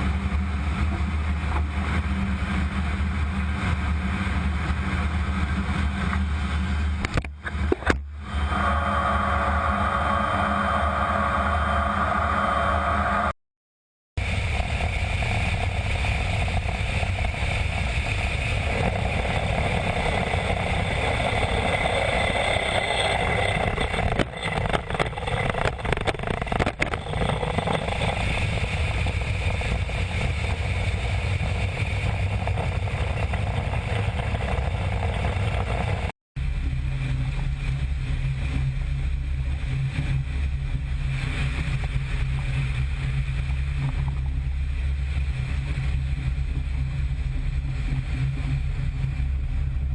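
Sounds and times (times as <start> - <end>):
jet engines roaring: 0.0 - 13.4, 14.2 - 45.7.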